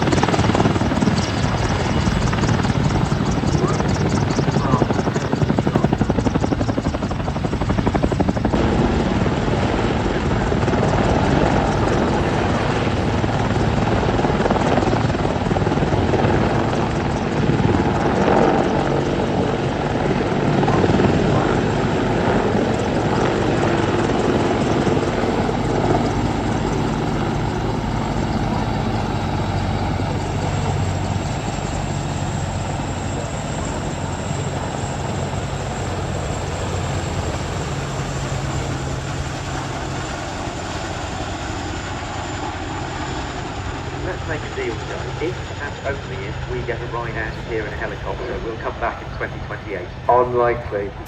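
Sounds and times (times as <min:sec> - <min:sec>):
helicopter rotor and turbine: 0:00.0 - 0:51.0.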